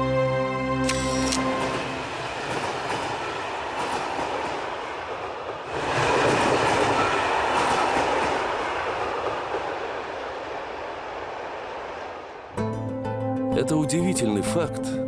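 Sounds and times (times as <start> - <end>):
train running on rails: 0.0 - 12.6.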